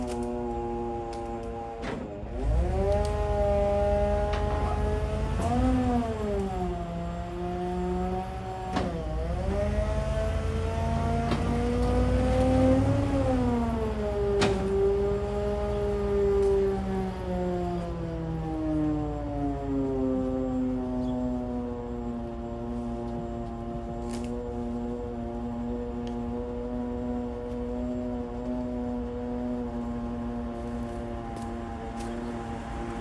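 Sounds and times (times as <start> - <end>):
heavy engine revving: 0.0 - 33.0.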